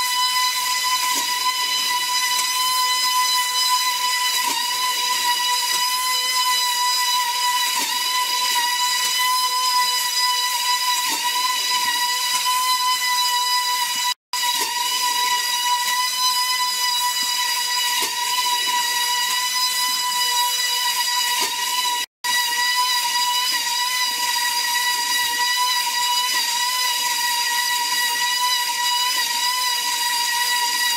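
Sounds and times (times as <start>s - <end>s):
small motor whining: 0.0s - 30.9s.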